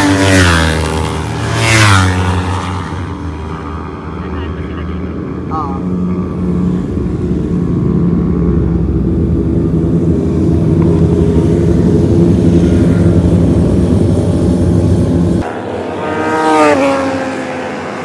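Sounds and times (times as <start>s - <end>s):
motorcycle passing by: 0.0s - 18.0s
racing motorcycle engines droning: 0.0s - 18.0s.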